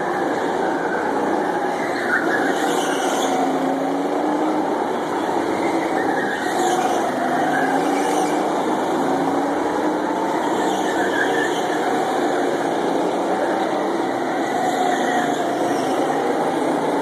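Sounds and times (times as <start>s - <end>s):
go-kart engines revving: 0.0s - 17.0s.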